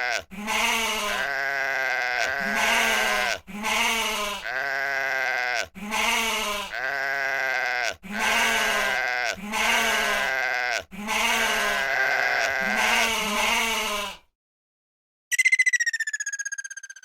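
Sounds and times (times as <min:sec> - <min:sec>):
sheep bleating: 0:00.0 - 0:14.3.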